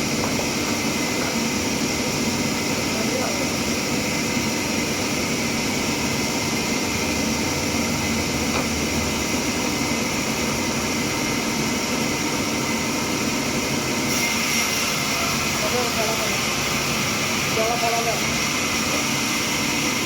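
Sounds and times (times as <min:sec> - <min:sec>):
sawmill machinery running: 0:00.0 - 0:20.0.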